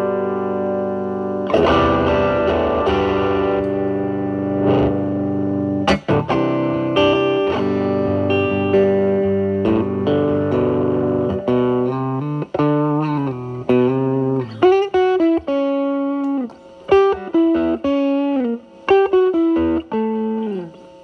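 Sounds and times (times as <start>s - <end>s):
distorted electric guitar chords: 0.0s - 21.0s.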